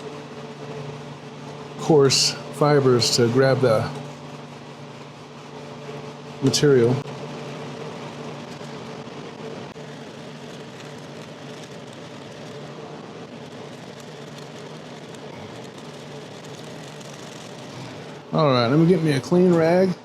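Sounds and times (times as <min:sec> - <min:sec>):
air conditioner hum: 0:00.0 - 0:20.0.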